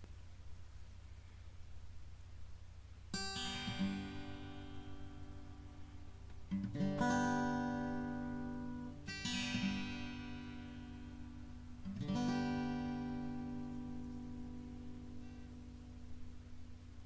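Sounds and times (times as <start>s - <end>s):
acoustic guitar chords strummed: 3.1s - 17.0s.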